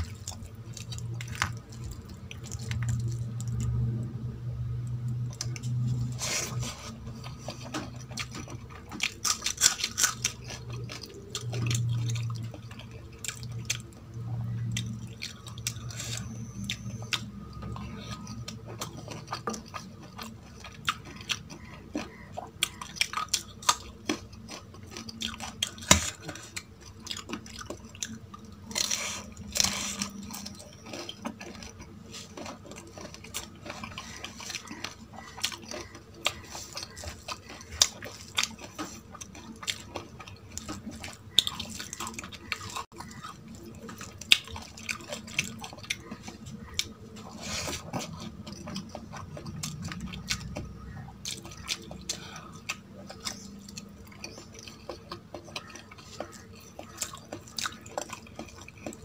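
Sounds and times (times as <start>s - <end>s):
chewing and wet mouth sounds: 0.0s - 59.0s.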